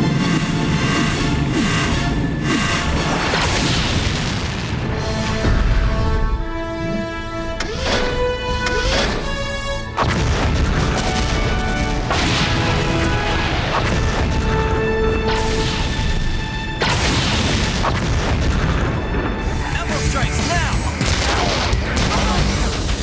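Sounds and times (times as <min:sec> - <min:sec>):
explosion booms: 0:00.0 - 0:06.8, 0:10.0 - 0:23.0
dramatic background music: 0:00.0 - 0:23.0.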